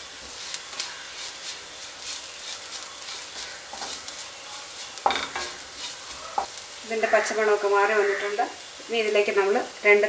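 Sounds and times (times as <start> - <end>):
spatula stirring and scraping: 0.0 - 8.2
onions sizzling in oil: 0.0 - 10.0.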